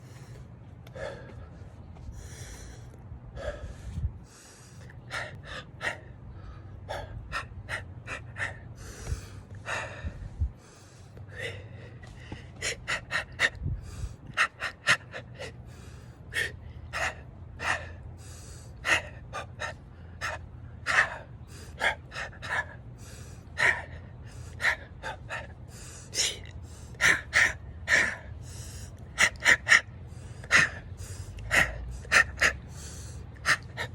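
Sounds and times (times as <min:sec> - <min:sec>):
person breathing sharply and gasping: 0:00.0 - 0:33.9
steady low hum: 0:00.0 - 0:33.9.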